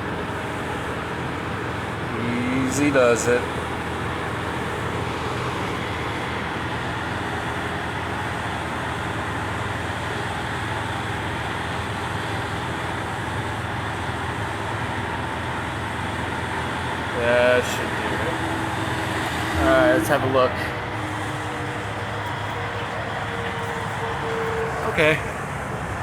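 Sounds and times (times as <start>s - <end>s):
highway traffic roar: 0.0s - 26.0s.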